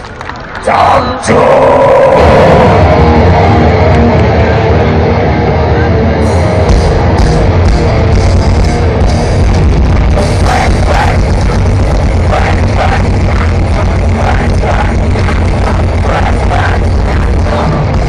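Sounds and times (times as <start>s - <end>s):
drums: 0.1s - 18.0s
distorted guitars: 0.6s - 18.0s.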